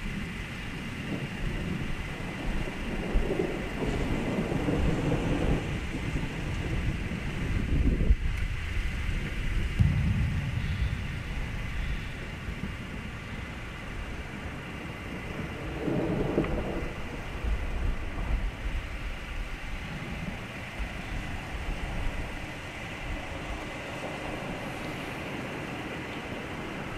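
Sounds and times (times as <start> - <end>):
thunder rumbling: 0.0 - 26.9.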